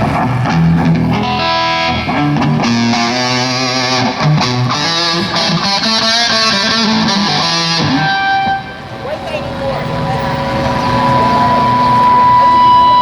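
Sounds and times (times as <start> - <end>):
distorted electric guitar lead: 0.0 - 13.0
rock band playing: 0.0 - 13.0.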